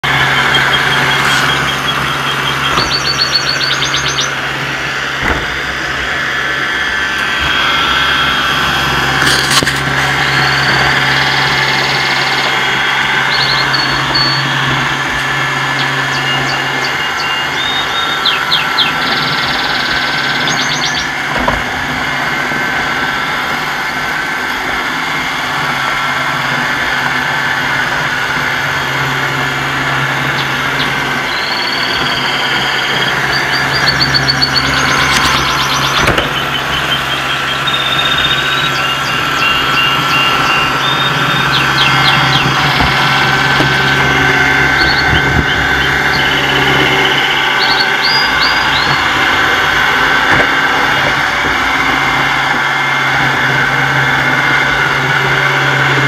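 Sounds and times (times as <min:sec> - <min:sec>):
robot vacuum humming: 0:00.0 - 0:56.0
thin whine: 0:00.0 - 0:56.0.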